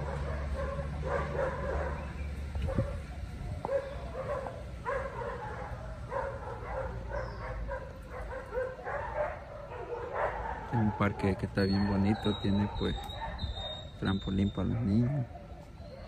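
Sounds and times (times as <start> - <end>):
dog barking: 0.0 - 16.0.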